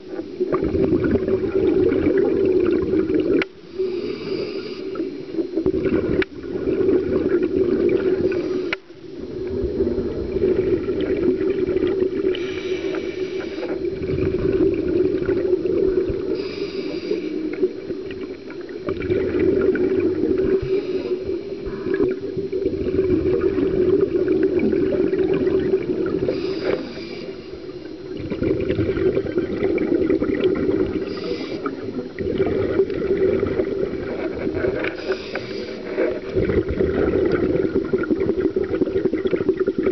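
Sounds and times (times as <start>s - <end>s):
regulator breath and bubbles: 0.0s - 39.9s
steady hum: 0.0s - 39.9s.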